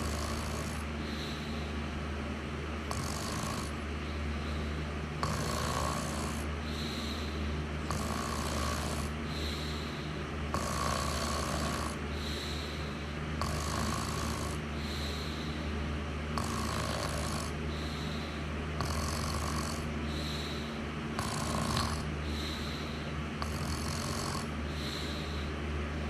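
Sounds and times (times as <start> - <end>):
person snoring: 0.0 - 1.7, 2.9 - 3.8, 4.4 - 15.6, 16.4 - 25.5
steady low hum: 0.0 - 26.0.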